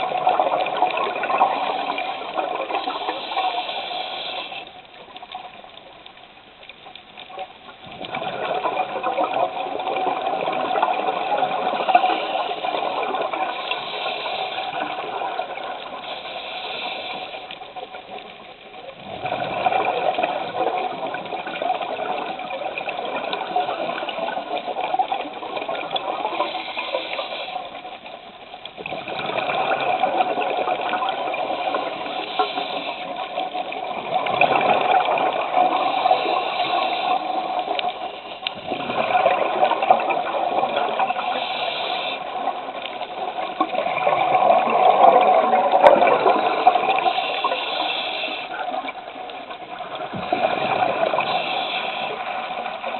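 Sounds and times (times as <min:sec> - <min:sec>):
bubbles gurgling underwater: 0:00.0 - 0:03.6, 0:07.2 - 0:16.1, 0:17.6 - 0:27.1, 0:27.7 - 0:41.5, 0:42.2 - 0:47.9, 0:48.5 - 0:52.9.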